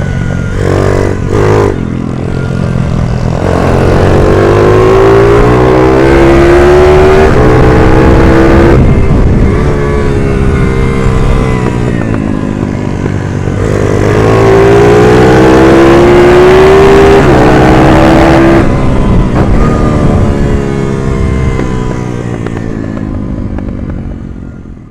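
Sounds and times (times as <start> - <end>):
minibike engine at full throttle: 0.0 - 24.9.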